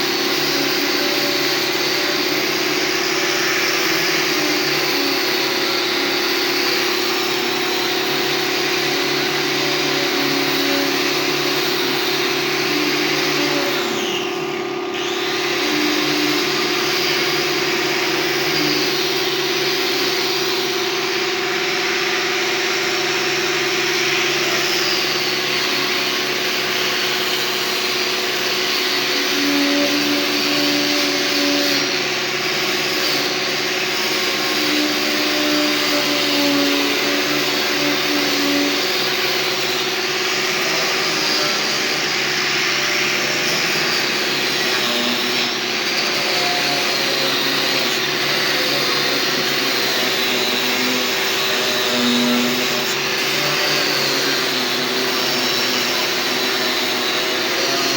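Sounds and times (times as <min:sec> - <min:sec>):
power tool motor whining: 0:00.0 - 0:57.9.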